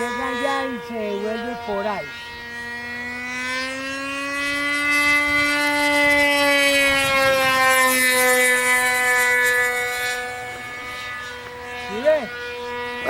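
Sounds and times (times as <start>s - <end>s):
model airplane engine droning: 0.0s - 13.0s.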